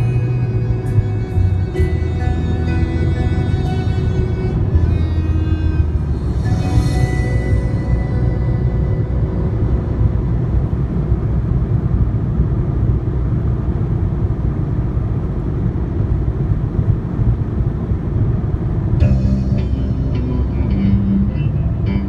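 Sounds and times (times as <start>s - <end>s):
car road rumble from inside: 0.0s - 22.0s.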